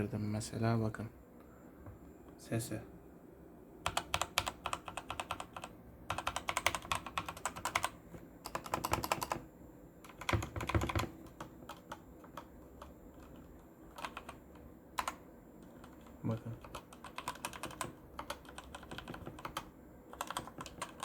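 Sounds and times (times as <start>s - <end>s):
mechanical keyboard typing: 3.8s - 21.0s.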